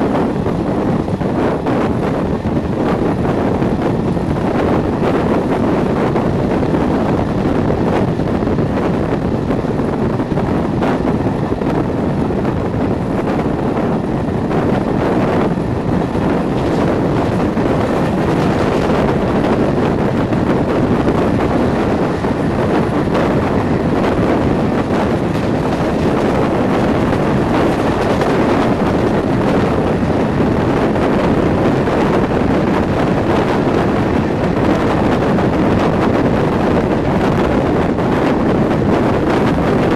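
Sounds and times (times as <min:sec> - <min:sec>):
diesel locomotive engine: 0:00.0 - 0:39.9
train wheels rumbling on rails: 0:00.0 - 0:39.9
wind on microphone: 0:00.0 - 0:39.9.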